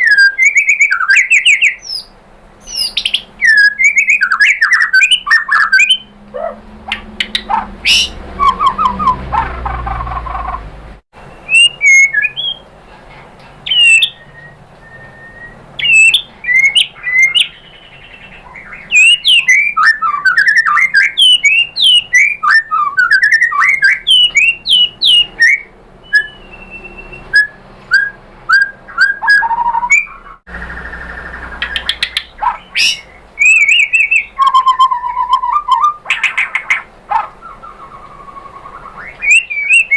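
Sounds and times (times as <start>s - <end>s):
bird singing chirps and whistles: 0.0s - 10.6s, 11.2s - 12.7s, 13.6s - 39.9s.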